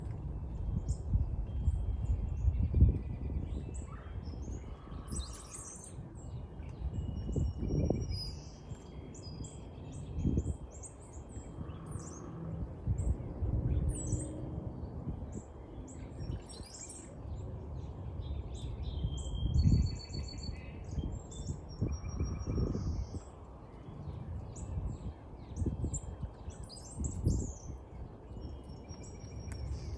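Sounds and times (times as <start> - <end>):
low rumble on microphone: 0.0 - 29.9
songbirds chirping: 0.0 - 29.9.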